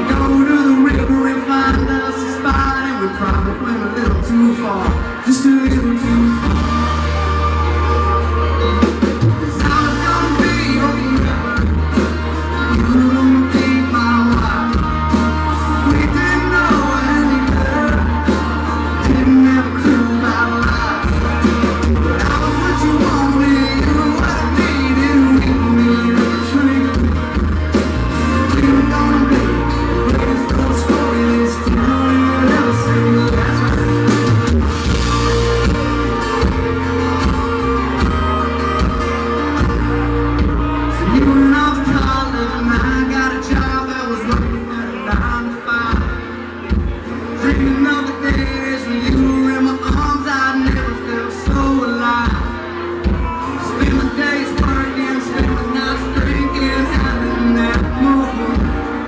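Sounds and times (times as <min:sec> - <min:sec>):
drums keeping a steady beat: 0:00.0 - 0:59.0
live country band playing: 0:00.0 - 0:59.0.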